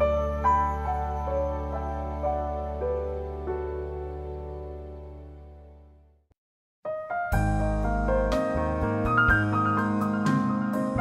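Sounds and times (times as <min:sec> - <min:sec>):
soft instrumental music: 0:00.0 - 0:06.2, 0:06.9 - 0:11.0.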